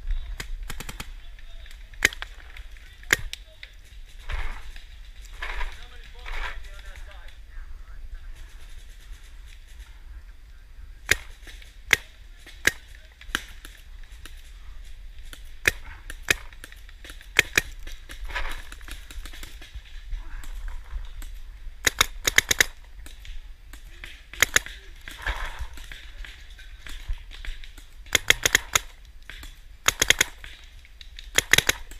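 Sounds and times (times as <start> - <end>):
paintball markers firing: 0.3 - 7.4, 11.0 - 31.9.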